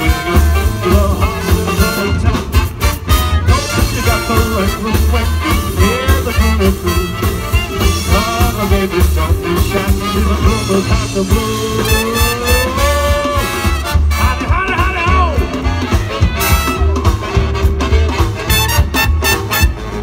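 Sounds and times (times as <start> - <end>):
swing band playing: 0.0 - 20.0.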